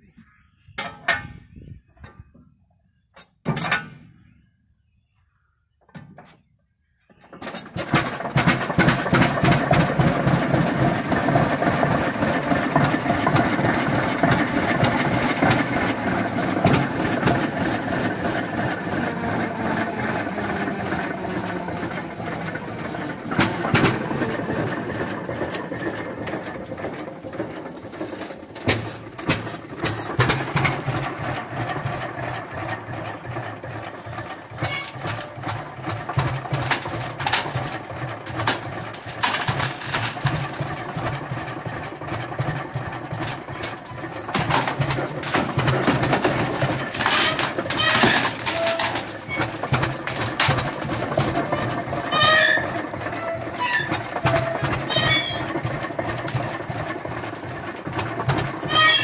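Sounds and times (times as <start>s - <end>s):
tractor engine clattering: 6.1s - 59.0s.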